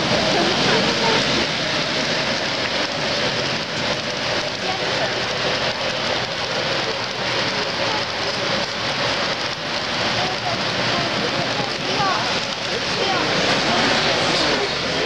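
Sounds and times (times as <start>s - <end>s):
model train wheels clattering: 0.0s - 15.0s.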